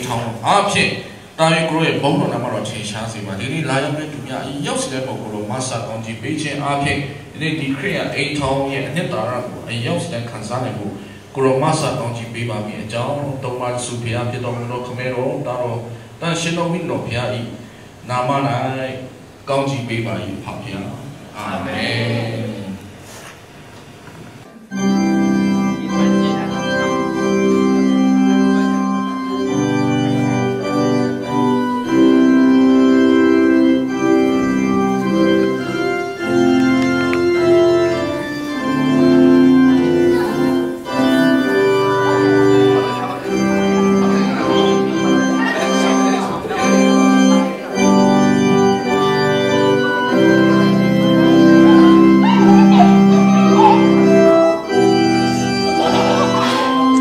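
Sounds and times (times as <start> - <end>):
electronic keyboard organ music: 0.0 - 18.4, 24.5 - 57.0.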